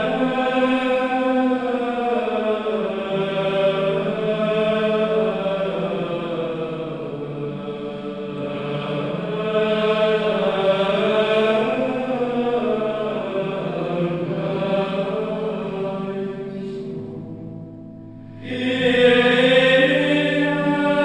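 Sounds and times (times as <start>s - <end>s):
slow sung chant: 0.0s - 21.0s.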